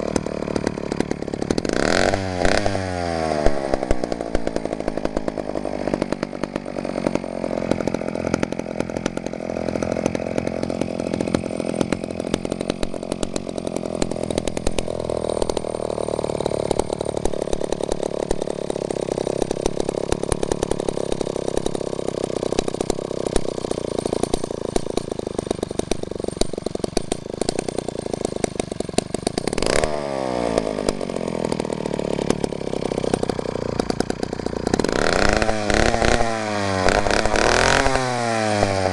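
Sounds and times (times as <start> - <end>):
chainsaw engine running: 0.0 - 38.9
chainsaw throttle blip: 0.0 - 38.9.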